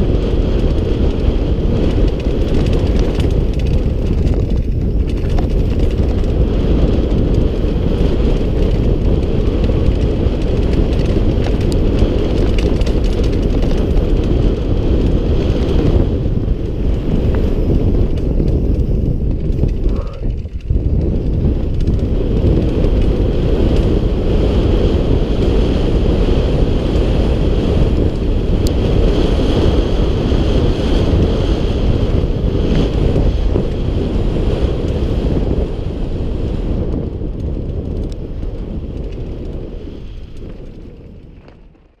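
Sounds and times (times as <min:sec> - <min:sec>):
low rumble from gravel trail: 0:00.0 - 0:42.0
wind rushing over microphone: 0:00.0 - 0:42.0.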